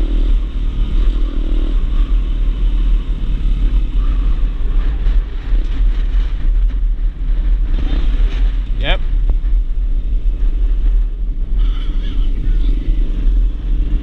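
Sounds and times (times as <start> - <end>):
motorcycle engine running: 0.0 - 14.0
wind on microphone: 0.0 - 14.0.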